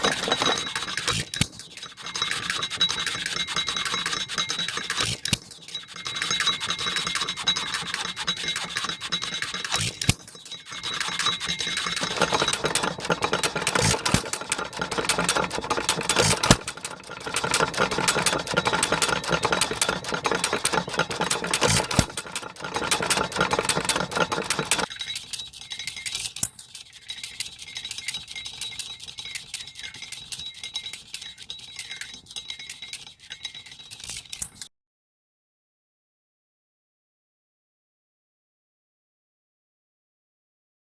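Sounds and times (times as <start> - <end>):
engine clicking and rattling: 0.0 - 34.7.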